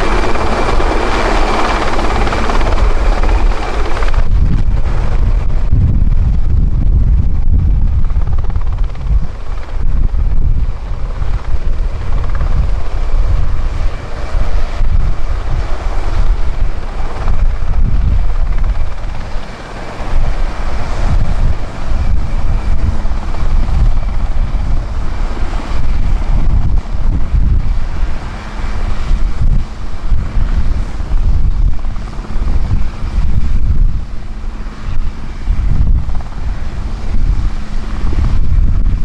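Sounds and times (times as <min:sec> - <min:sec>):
helicopter rotor beat: 0:00.0 - 0:39.0
high turbine engine whine: 0:00.0 - 0:39.0.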